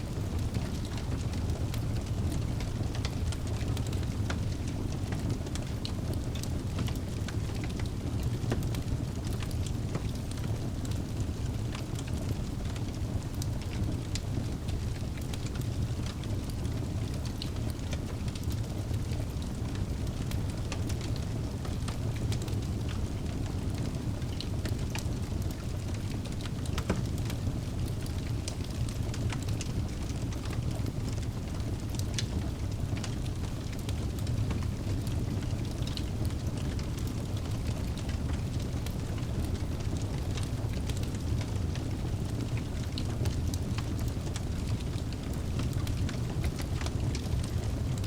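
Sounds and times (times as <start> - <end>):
fire crackling and popping: 0.1 - 48.0
fire rumbling: 0.1 - 48.0.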